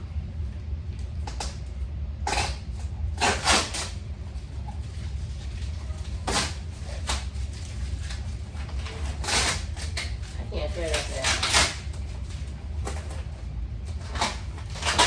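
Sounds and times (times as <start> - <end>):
packing tape ripping off box: 1.2 - 4.0, 4.8 - 15.0.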